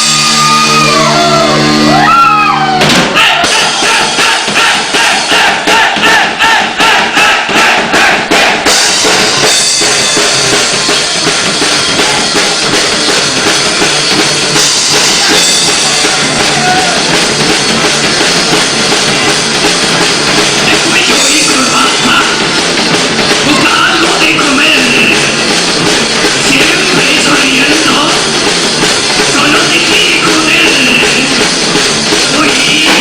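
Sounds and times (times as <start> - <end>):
rock band playing live: 0.0 - 33.0
quick drum hits: 2.7 - 33.0.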